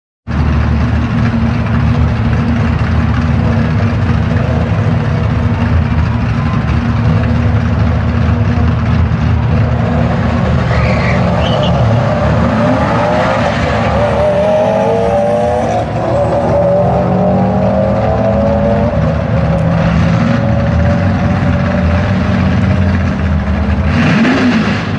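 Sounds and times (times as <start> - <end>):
drag car engines rumbling: 0.2 - 24.9.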